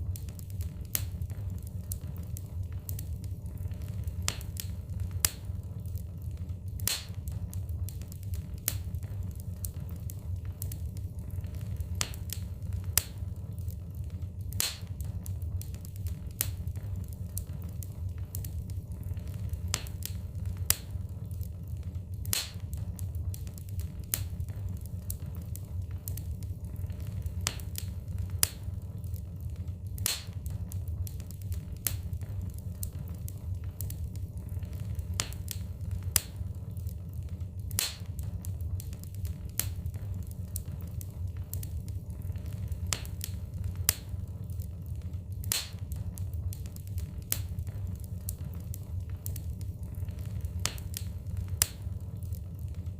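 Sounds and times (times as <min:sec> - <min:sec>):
fire flames rumbling: 0:00.0 - 0:52.9
logs crackling and popping: 0:00.0 - 0:52.9.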